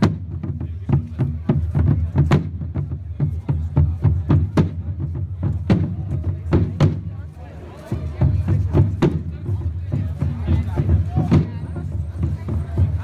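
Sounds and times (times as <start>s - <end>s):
sharp drum strikes: 0.0s - 7.1s, 8.4s - 13.0s
low rumble of drumming: 0.0s - 13.0s.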